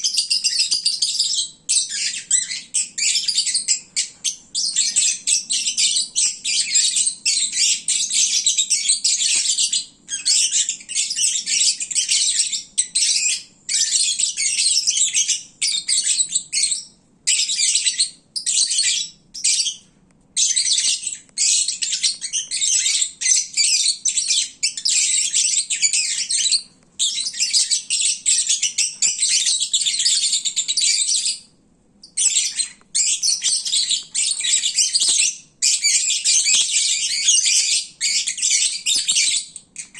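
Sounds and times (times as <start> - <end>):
lovebirds chattering and chirping: 0.0 - 39.9.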